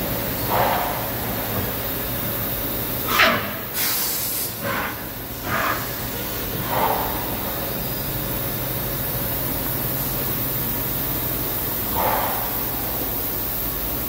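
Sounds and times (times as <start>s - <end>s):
machining center running: 0.0s - 3.8s, 4.5s - 14.0s.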